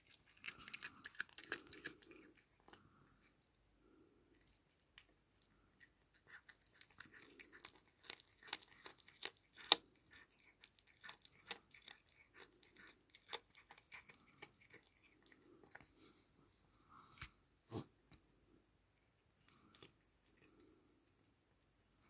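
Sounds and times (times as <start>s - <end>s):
cat crunching on prey: 0.0s - 16.0s, 19.1s - 21.2s.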